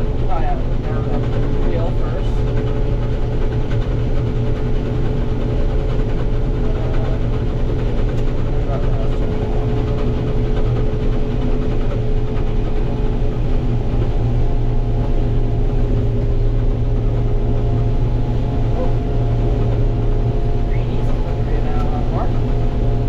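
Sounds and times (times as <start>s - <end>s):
combine harvester running: 0.0s - 23.0s.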